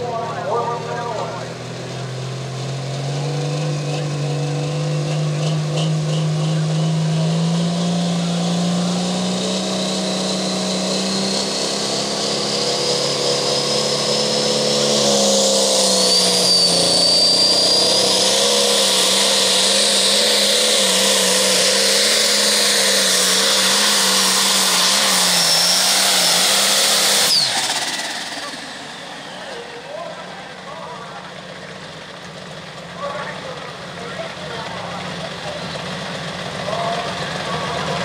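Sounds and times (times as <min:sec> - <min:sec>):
high turbo whine: 0:00.0 - 0:38.0
tractor diesel engine under load: 0:00.0 - 0:38.0.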